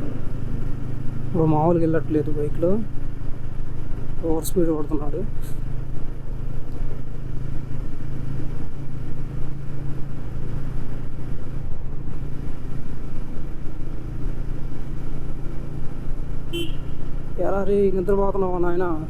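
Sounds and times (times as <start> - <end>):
motorcycle engine cruising: 0.0 - 19.0
road noise: 0.0 - 19.0.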